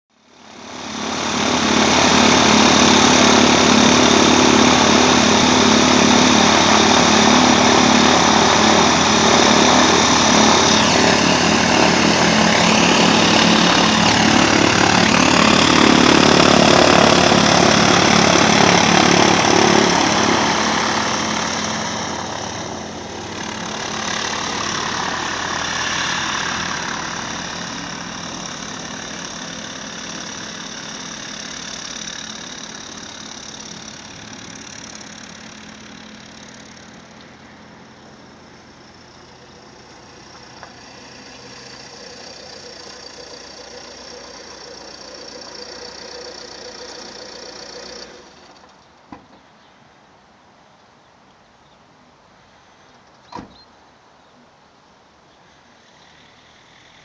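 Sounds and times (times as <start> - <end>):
light aircraft propeller engine running: 0.1 - 49.7, 55.2 - 57.0.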